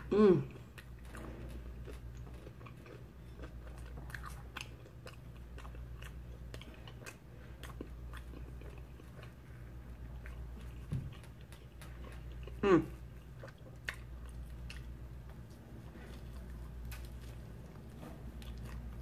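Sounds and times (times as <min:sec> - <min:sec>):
person chewing with mouth sounds: 0:00.0 - 0:19.0.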